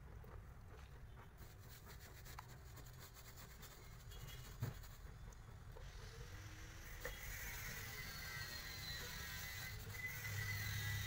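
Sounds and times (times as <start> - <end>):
paintbrush rubbing on tyre: 1.2 - 11.0.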